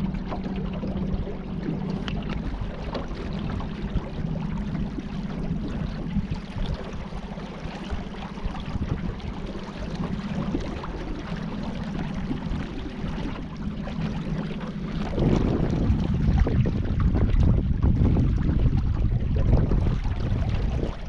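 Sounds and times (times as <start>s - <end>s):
water sloshing and splashing: 0.0s - 21.0s
wind on microphone: 0.0s - 21.0s.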